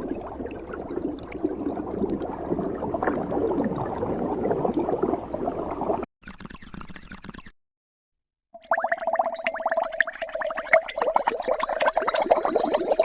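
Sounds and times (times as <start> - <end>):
water bubbling and gurgling: 0.0 - 6.1, 8.6 - 13.0.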